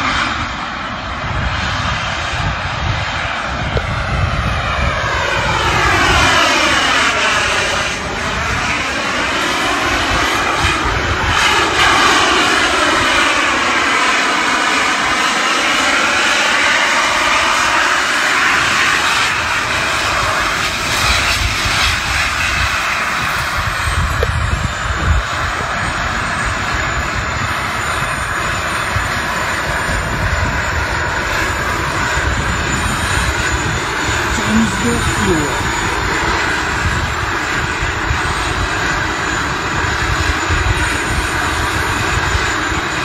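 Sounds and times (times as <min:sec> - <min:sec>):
jet turbine whine: 0:00.0 - 0:43.0.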